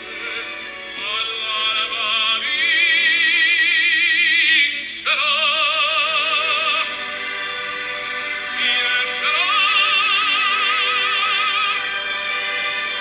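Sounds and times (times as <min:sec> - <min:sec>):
musical accompaniment: 0:00.0 - 0:13.0
operatic voice singing: 0:00.0 - 0:13.0.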